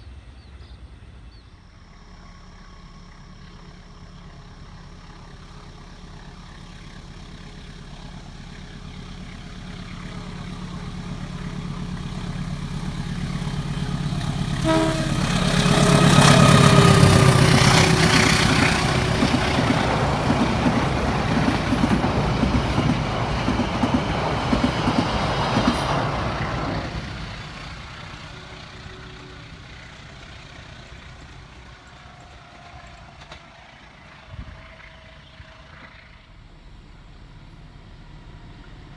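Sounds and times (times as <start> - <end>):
train wheels rumbling on rails: 0.0 - 38.9
locomotive engine hum: 0.1 - 38.9.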